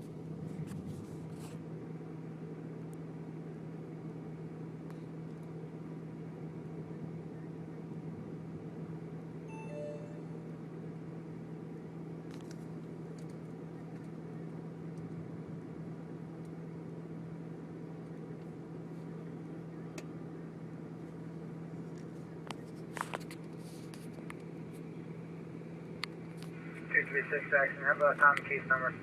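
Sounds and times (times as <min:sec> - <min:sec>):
constant hum: 0:00.0 - 0:29.0
vehicle cabin rumble: 0:00.0 - 0:29.0.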